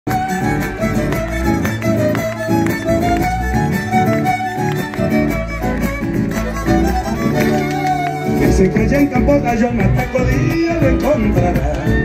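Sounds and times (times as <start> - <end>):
bass line: 0.1 - 12.0
violin melody: 0.1 - 12.0.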